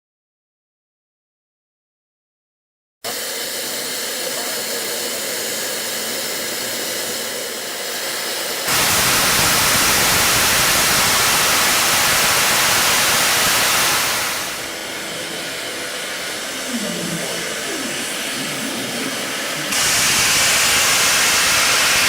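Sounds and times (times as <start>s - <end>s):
steam hissing from locomotive: 3.1s - 22.0s.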